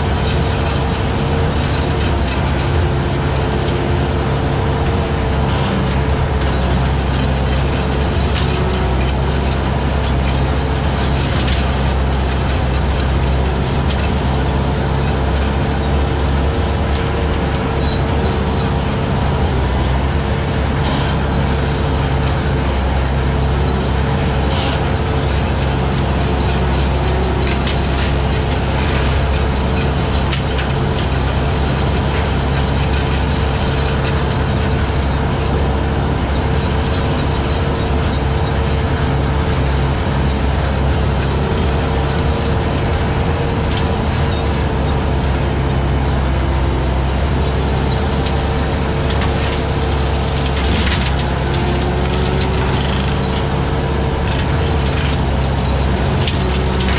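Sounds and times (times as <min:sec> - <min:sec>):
skid steer engine under load: 0:00.0 - 0:56.9.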